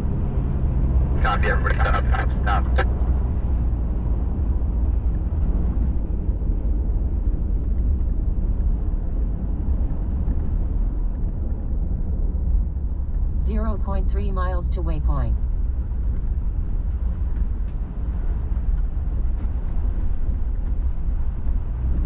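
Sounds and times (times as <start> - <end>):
truck engine and tyre rumble: 0.0 - 22.0.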